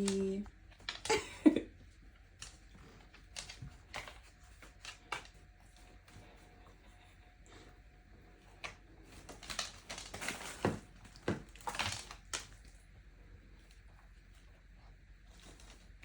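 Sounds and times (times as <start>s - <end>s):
crunching and crinkling: 0.0s - 16.0s.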